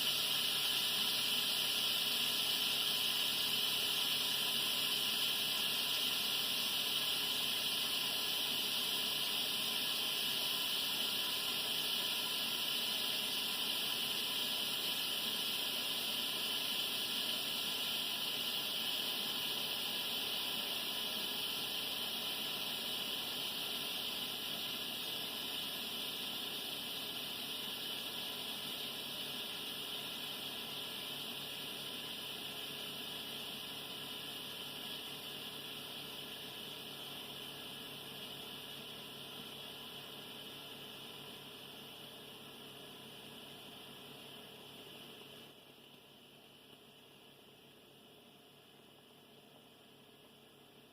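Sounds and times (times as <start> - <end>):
pressure cooker steam hissing: 0.0 - 50.9.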